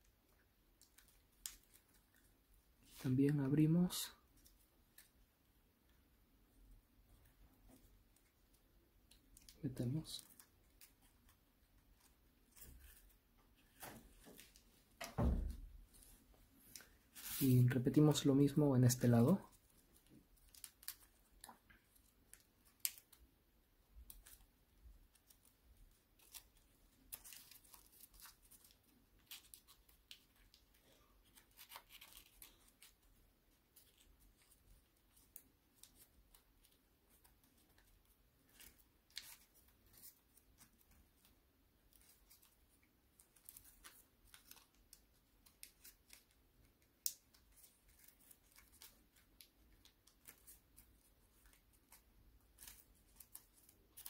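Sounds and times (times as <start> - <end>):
paper crinkling as folded: 0.3 - 5.2, 7.2 - 14.9, 15.8 - 54.0.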